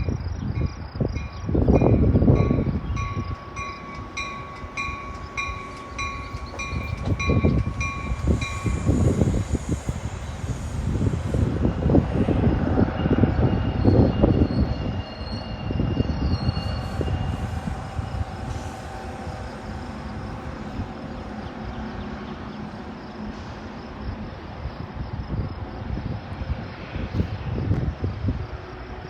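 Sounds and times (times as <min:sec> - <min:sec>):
train wheels rumbling and clattering: 0:00.0 - 0:28.8.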